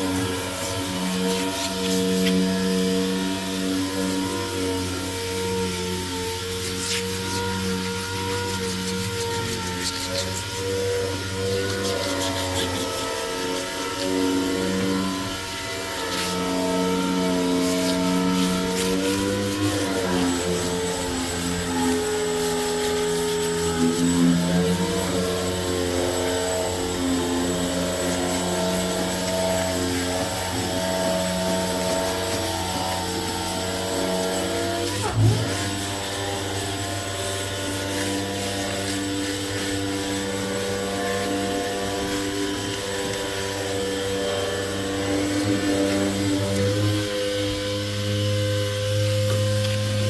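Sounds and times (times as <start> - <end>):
machine motor humming: 0.0 - 50.0.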